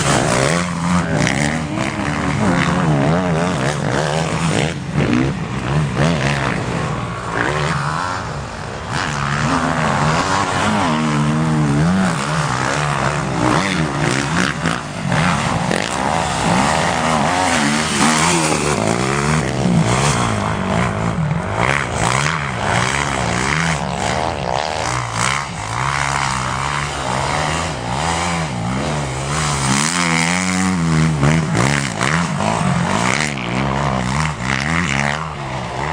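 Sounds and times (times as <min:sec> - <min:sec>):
motorcycle engines revving: 0:00.0 - 0:35.9.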